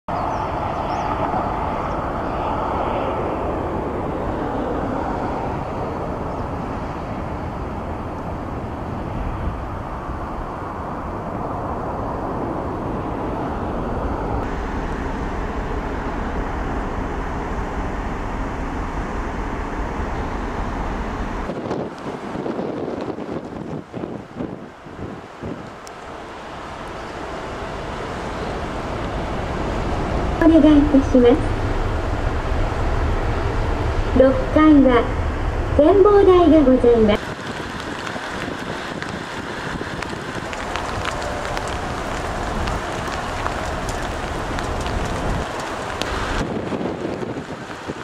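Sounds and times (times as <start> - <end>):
heavy low rumble: 0.1 - 48.0.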